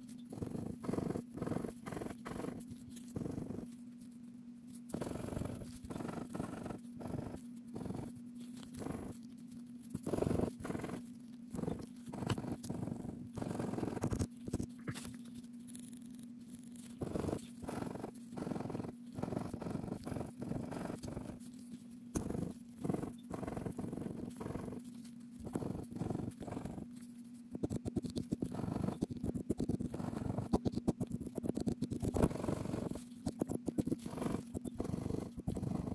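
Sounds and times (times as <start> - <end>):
scratching lottery ticket: 0.0 - 35.9.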